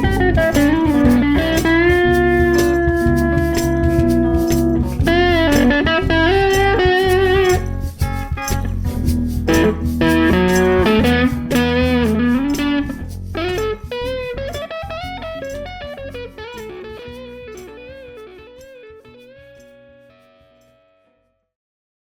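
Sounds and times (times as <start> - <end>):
jam backing track: 0.0 - 19.8
electric guitar blues lead: 0.0 - 21.0.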